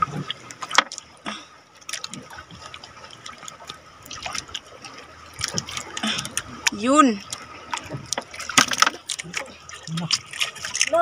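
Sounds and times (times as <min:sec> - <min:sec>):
water dripping and splashing: 0:00.0 - 0:11.0.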